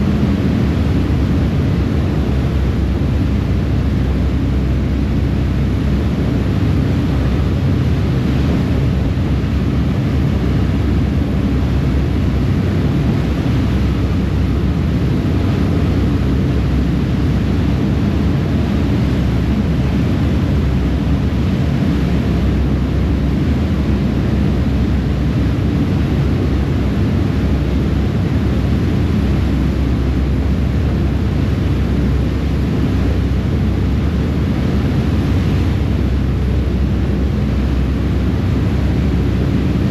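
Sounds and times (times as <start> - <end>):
ferry engines droning: 0.0 - 39.9
rush of churning wake: 0.0 - 39.9.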